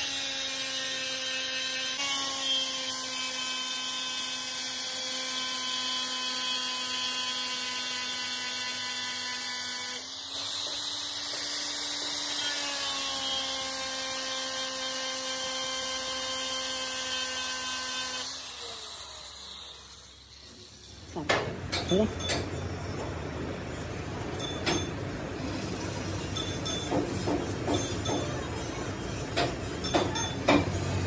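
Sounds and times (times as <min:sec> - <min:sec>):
grinder grinding metal: 0:00.0 - 0:23.0, 0:23.7 - 0:31.0.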